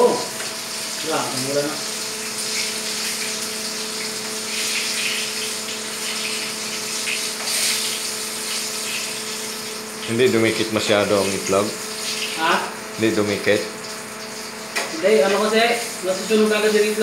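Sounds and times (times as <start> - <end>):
food frying in oil: 0.0 - 17.0.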